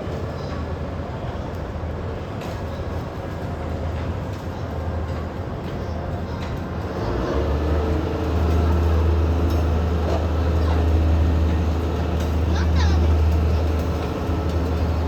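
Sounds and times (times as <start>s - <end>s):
railcar rumbling on rails: 0.0s - 15.0s.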